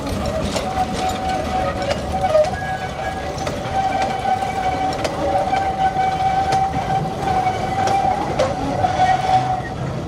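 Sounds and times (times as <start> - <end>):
train rolling past: 0.0 - 10.0.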